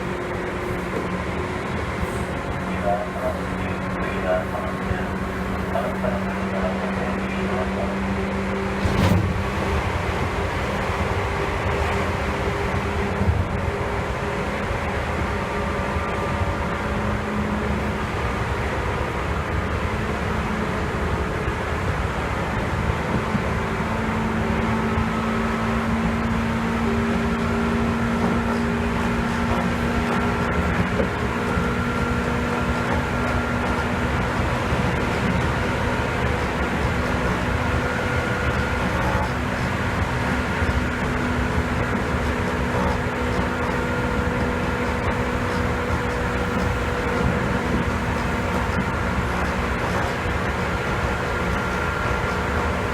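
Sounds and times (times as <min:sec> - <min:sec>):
train car rumbling: 0:00.0 - 0:52.9.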